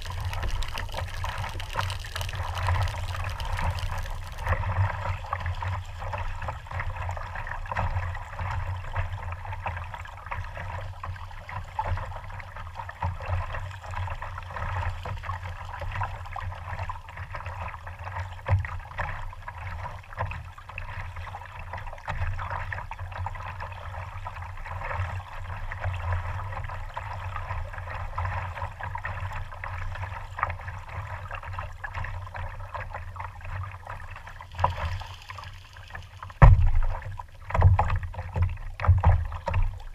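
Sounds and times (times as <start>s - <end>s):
small water splashes: 0.0s - 39.9s
water lapping and gurgling: 0.0s - 39.9s.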